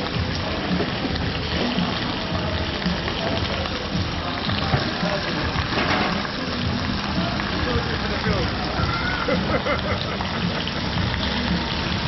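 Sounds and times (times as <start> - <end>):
background music: 0.0 - 12.0
crowd chatter: 0.0 - 12.0.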